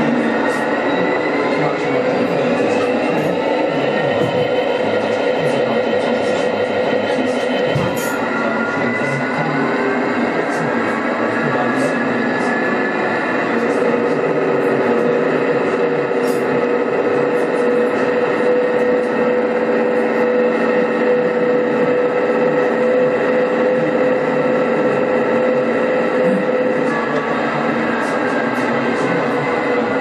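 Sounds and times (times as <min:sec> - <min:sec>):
diesel locomotive droning: 0:00.0 - 0:30.0.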